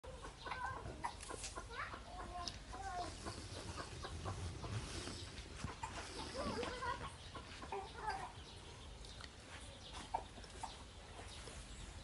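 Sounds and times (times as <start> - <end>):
animal chirping and clucking: 0.0 - 12.0.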